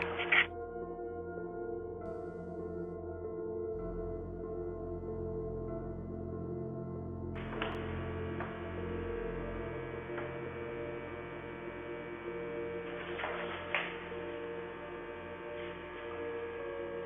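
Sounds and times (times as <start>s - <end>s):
ambient music pad drone: 0.0s - 17.0s.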